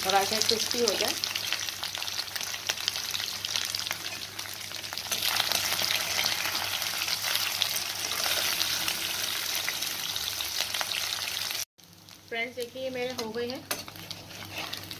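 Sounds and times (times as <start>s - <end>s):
food sizzling in hot oil: 0.0s - 14.9s.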